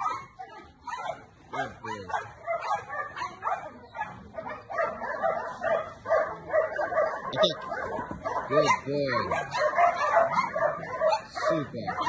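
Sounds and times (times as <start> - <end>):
dog barking: 0.0 - 12.0.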